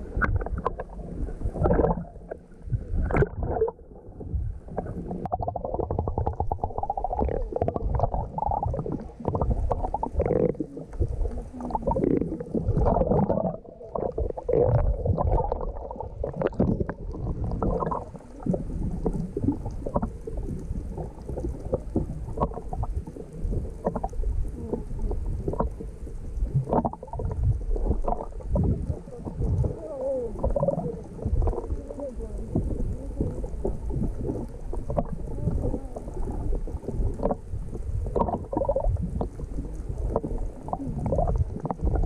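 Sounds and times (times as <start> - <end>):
low uneven rumble: 0.0 - 42.0
muffled water sloshing: 0.0 - 42.0.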